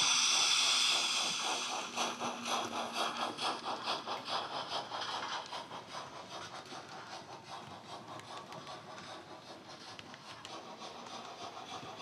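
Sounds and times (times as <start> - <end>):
steam locomotive chuffing with hiss: 0.0 - 12.0.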